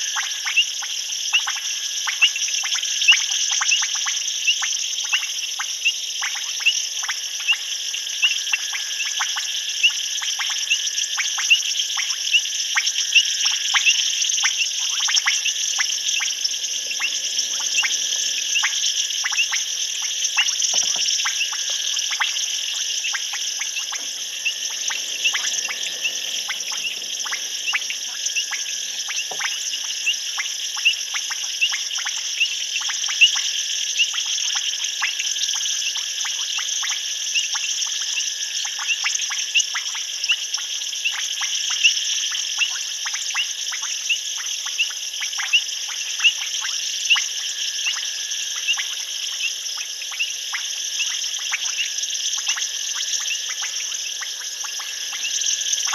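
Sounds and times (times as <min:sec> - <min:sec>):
frogs clicking calls: 0:00.0 - 0:55.9.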